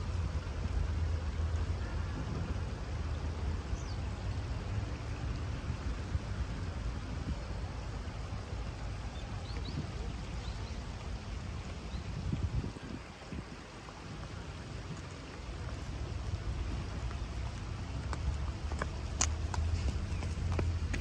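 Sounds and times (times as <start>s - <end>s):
river water flowing over stones: 0.0s - 21.0s.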